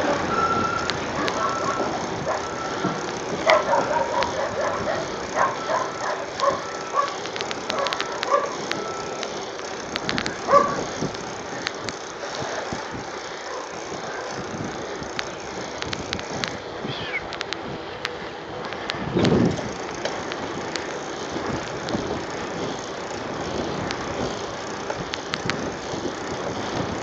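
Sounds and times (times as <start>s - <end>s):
bike road and wind noise: 0.0s - 27.0s
fast ticking: 0.3s - 16.6s, 18.8s - 27.0s.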